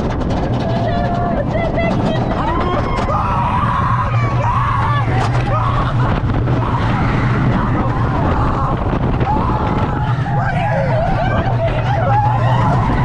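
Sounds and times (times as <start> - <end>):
ride rumbling and rushing: 0.0 - 13.0
people screaming: 0.5 - 13.0.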